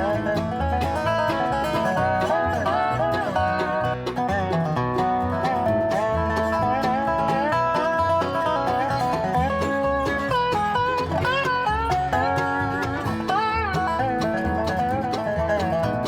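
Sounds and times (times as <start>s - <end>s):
bluegrass banjo and guitar music: 0.0s - 16.0s.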